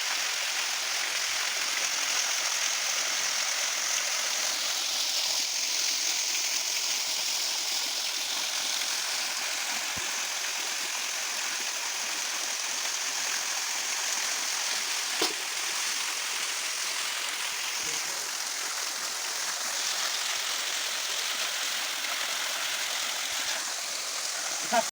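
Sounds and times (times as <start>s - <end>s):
stream running: 0.0s - 24.9s.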